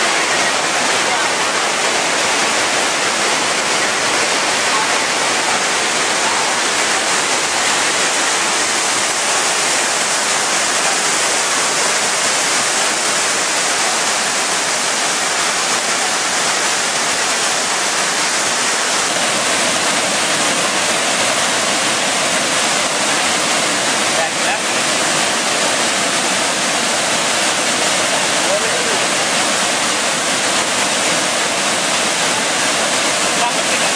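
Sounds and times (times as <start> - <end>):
waterfall rushing over rocks: 0.0 - 33.9.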